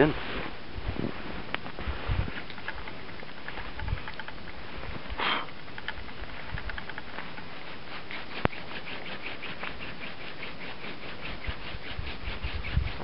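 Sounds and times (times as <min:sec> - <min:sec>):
wooden spindle scratching: 0:01.8 - 0:13.0.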